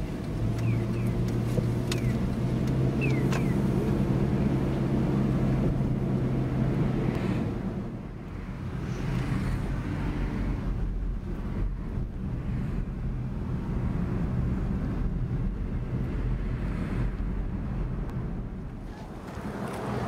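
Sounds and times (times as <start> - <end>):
car engine rumbling inside cabin: 0.0 - 20.0.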